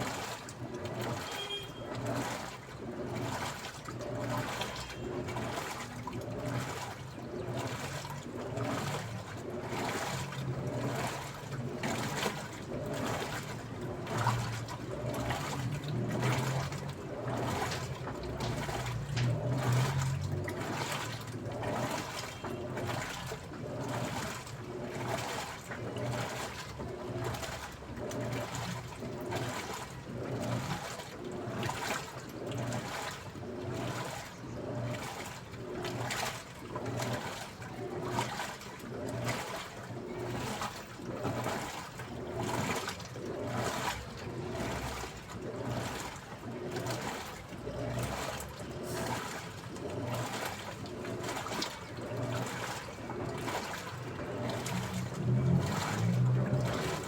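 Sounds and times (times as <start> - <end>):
washing machine water sloshing: 0.0 - 57.0.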